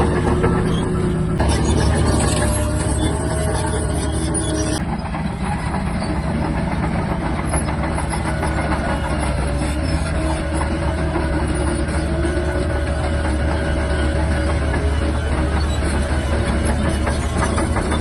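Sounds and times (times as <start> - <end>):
bulldozer diesel engine droning: 0.0 - 18.0
steel tracks clattering: 0.0 - 18.0.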